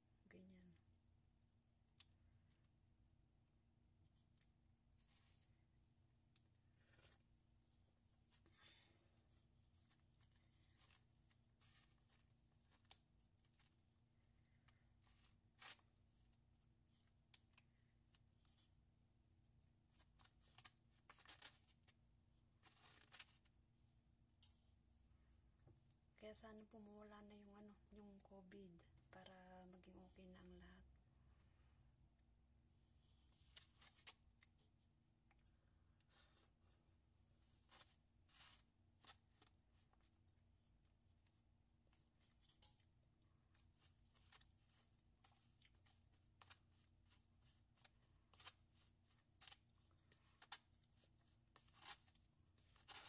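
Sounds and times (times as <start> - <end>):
faint room hum: 0.0 - 53.0.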